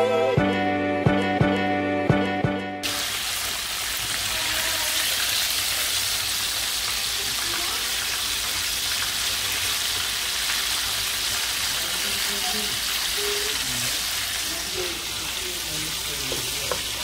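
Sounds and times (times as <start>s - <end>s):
oil sizzling: 2.8s - 17.0s.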